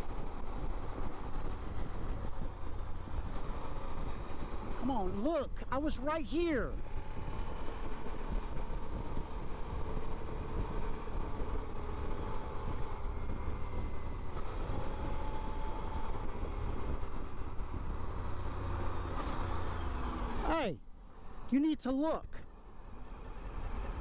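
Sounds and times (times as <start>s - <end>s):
car engine rumble: 0.0s - 24.0s
tyres on road: 0.0s - 24.0s.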